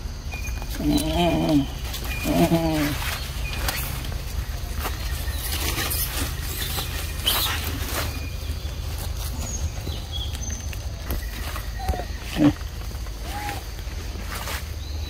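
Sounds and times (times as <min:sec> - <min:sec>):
low rumble: 0:00.0 - 0:15.0
rustling in dry leaves: 0:00.0 - 0:15.0.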